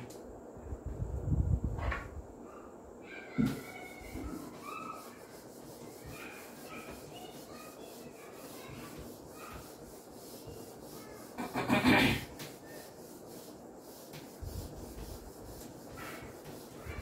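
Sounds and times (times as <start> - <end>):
duster rubbing on whiteboard: 3.1 - 17.0.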